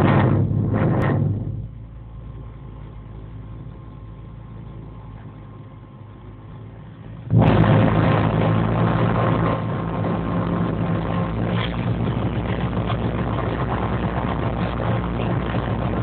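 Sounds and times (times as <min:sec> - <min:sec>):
twin piston aircraft engines: 0:00.0 - 0:16.0.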